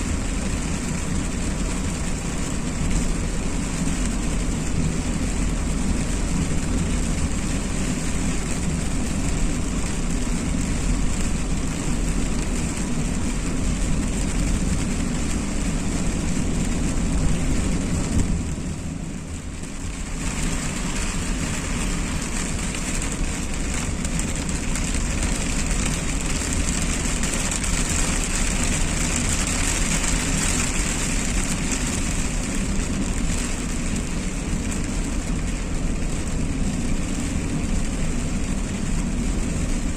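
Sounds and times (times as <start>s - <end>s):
car driving on wet road: 0.0s - 39.9s
rain hiss: 0.0s - 39.9s.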